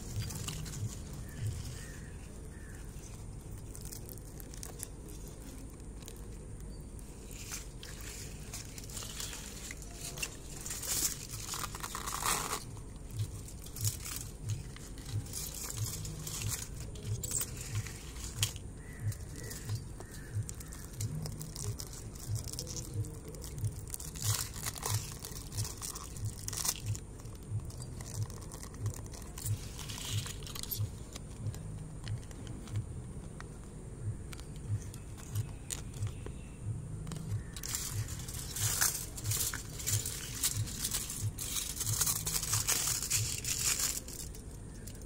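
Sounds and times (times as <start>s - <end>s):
foil and plastic crinkling and tearing: 0.0s - 33.6s, 34.3s - 45.0s.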